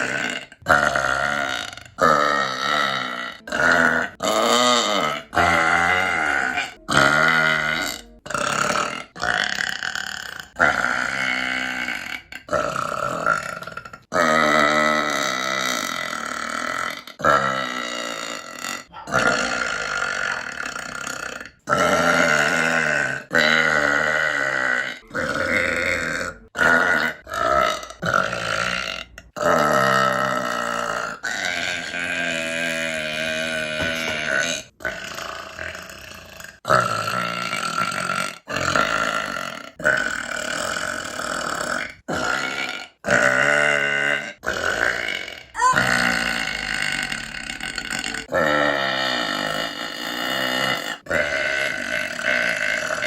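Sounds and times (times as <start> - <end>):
woman burping loudly: 0.0 - 53.0.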